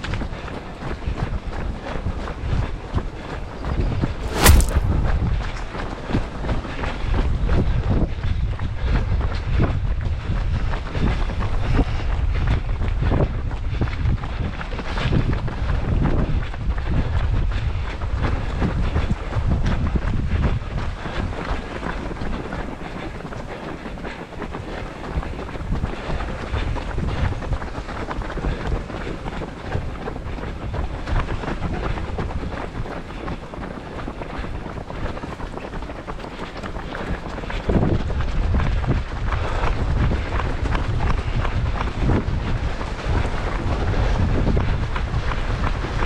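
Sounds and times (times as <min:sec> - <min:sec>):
gusty wind on microphone: 0:00.0 - 0:23.4, 0:24.4 - 0:46.0.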